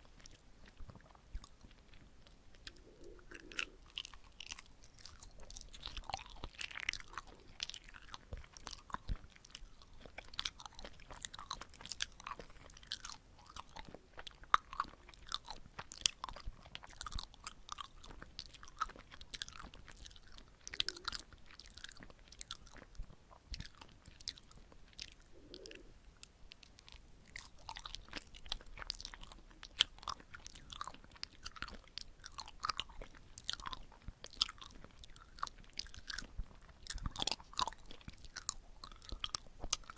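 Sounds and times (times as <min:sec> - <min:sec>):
sticky wet chewing: 0:00.0 - 0:39.9.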